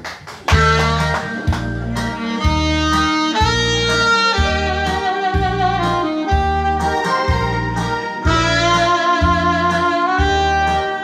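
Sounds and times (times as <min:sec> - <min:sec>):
low bass note: 0:00.5 - 0:11.0
wavering lead melody: 0:00.5 - 0:11.0.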